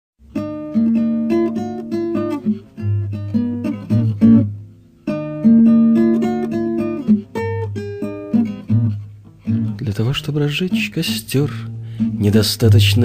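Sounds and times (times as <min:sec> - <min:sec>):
acoustic guitar chords: 0:00.2 - 0:13.0.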